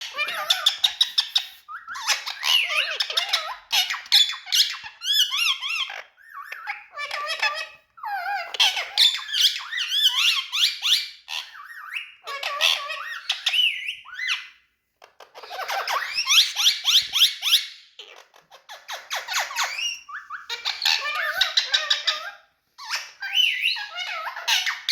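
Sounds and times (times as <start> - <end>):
parrot chattering and squawking: 0.0 - 24.9.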